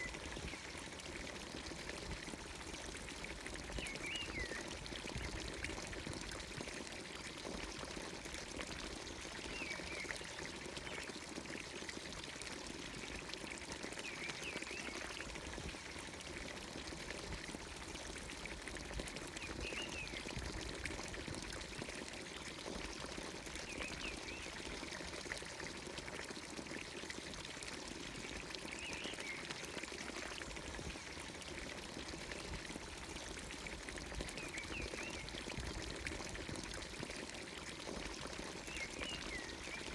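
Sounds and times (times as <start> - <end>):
water pouring from fountain spout: 0.0 - 39.9.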